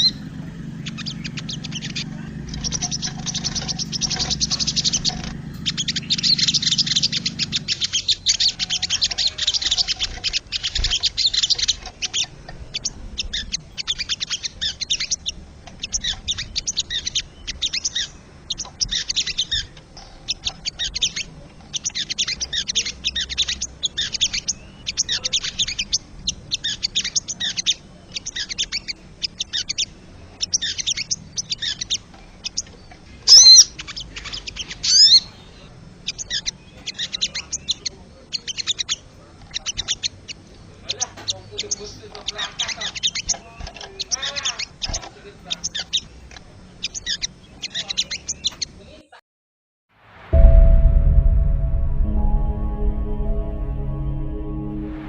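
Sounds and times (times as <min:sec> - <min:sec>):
bird rattling chatter calls: 0:00.8 - 0:32.7, 0:36.1 - 0:48.6.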